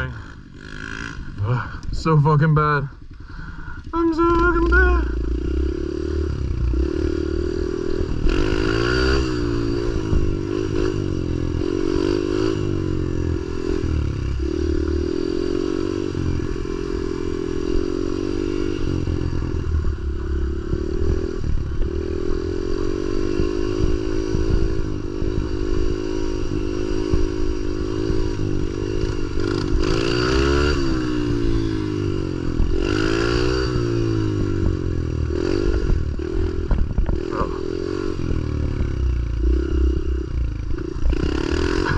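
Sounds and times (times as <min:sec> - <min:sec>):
small motorbike engine revving: 0:00.0 - 0:01.8, 0:04.2 - 0:41.9.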